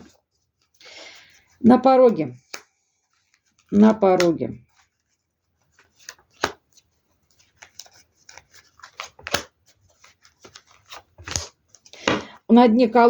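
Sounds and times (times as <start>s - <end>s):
cards being shuffled: 0.0s - 12.3s.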